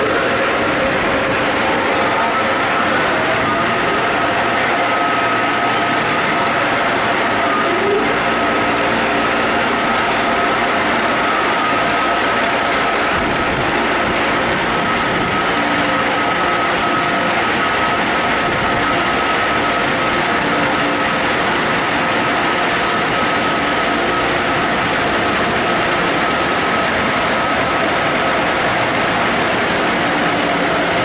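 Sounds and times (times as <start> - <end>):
car wash machinery rushing: 0.0 - 31.0
high machine whine: 0.0 - 31.0.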